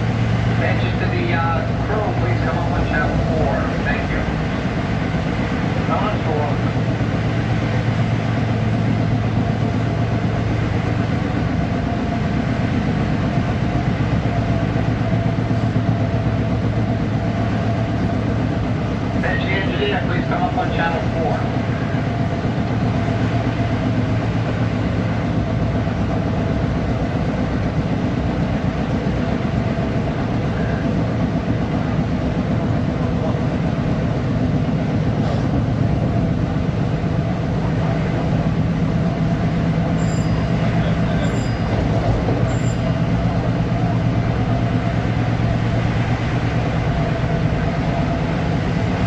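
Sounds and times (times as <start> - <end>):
electric train rumbling: 0.0 - 49.0
steady low hum: 0.0 - 49.0.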